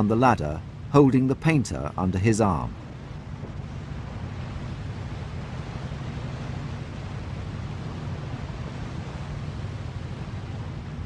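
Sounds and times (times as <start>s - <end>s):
constant low rumble: 0.0s - 11.0s
sea noise: 0.0s - 11.0s
wind: 0.0s - 11.0s.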